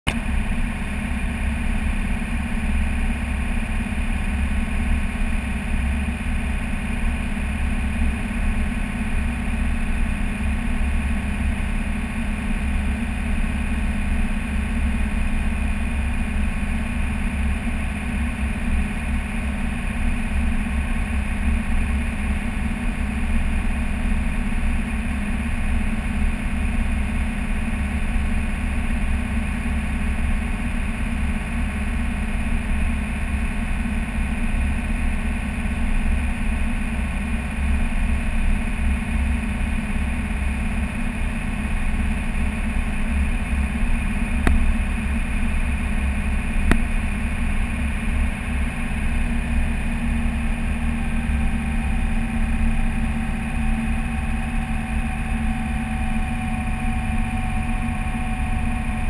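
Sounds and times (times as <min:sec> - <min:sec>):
truck engine droning: 0:00.1 - 0:59.0.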